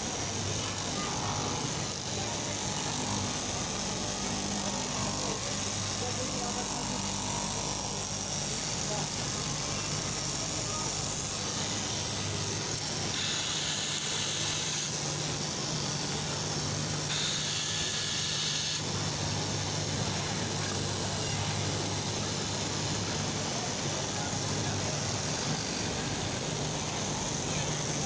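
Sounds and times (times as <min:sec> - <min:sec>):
cutting machine motor hum: 0:00.0 - 0:28.0.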